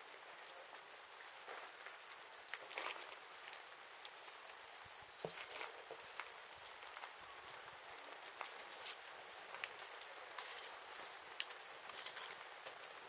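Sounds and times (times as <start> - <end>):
fire popping and snapping: 0.0 - 13.0
soft fire hiss: 0.0 - 13.0
wood fire crackling: 0.0 - 13.0.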